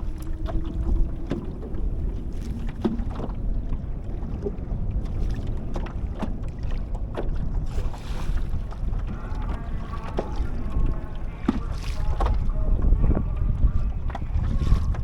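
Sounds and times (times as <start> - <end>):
water lapping around kayak: 0.0 - 15.0
wind rumbling on microphone: 0.0 - 15.0.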